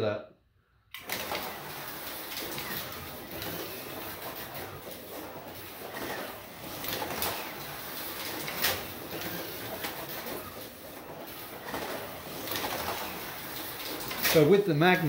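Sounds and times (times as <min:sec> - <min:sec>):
slot car motor whirring: 0:00.9 - 0:15.0
chassis scraping on plastic track: 0:01.0 - 0:15.0.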